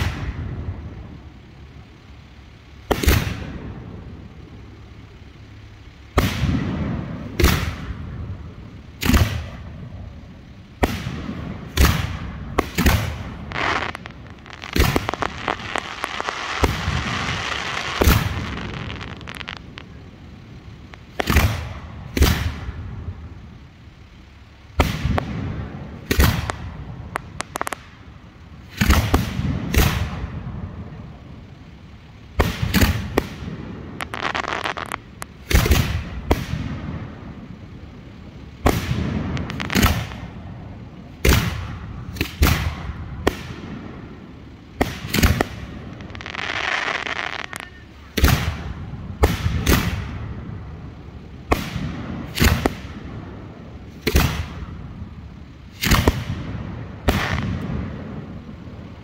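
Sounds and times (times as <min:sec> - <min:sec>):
firework shells booming: 0:00.0 - 0:01.5, 0:02.8 - 0:05.3, 0:06.1 - 0:31.4, 0:32.2 - 0:37.7, 0:38.4 - 0:58.6
firework crackling: 0:00.0 - 0:59.0.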